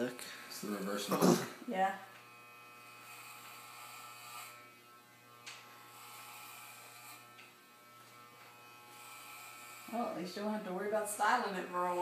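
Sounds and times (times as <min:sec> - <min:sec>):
electric hair clippers buzzing: 0:00.6 - 0:12.0.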